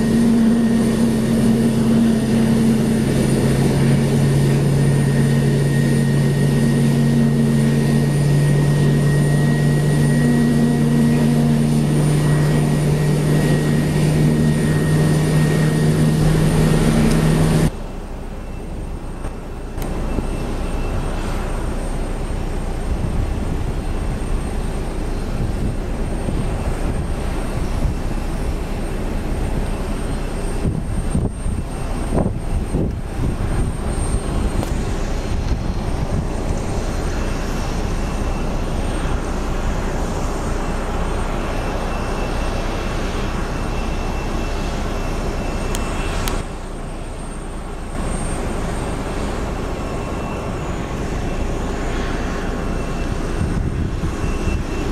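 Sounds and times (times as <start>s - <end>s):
jet engines rumbling: 0.0s - 54.9s
thin high whine: 0.0s - 54.9s.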